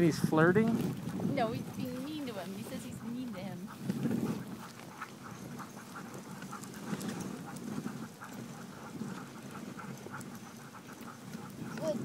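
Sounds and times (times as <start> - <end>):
sled sliding on snow: 0.0 - 12.0
dog paws padding on snow: 0.7 - 12.0.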